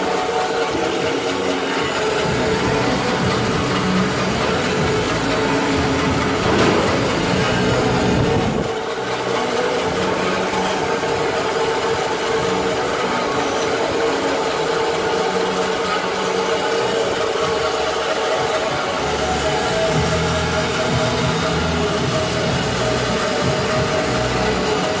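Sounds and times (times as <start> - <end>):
band saw machine humming: 0.0 - 25.0.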